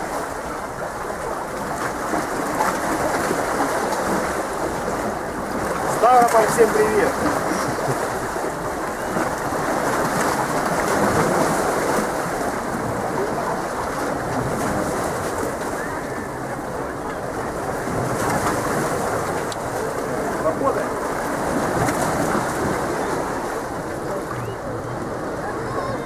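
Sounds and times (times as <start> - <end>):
sea surf washing against rocks: 0.0 - 26.0.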